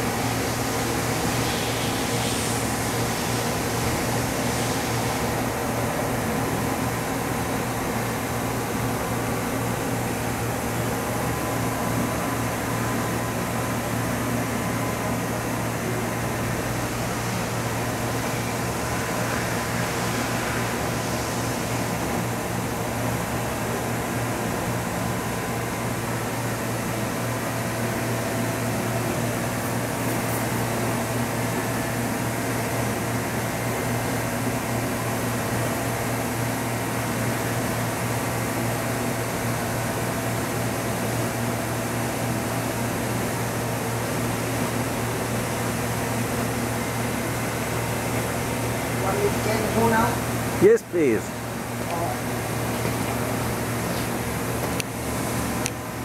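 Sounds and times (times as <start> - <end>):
idling milling machine hum: 0.0 - 56.0.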